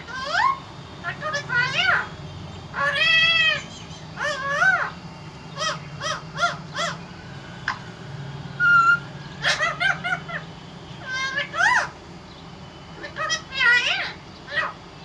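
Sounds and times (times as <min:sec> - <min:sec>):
parrot whistle: 0:00.0 - 0:12.0, 0:13.0 - 0:14.8
parrot calling: 0:00.0 - 0:14.9.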